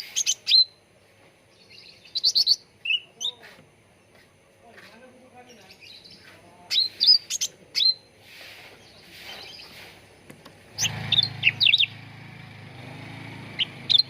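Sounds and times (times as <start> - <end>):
bird chirping: 0.0 - 0.8, 1.5 - 4.3, 5.4 - 12.1, 12.8 - 14.0.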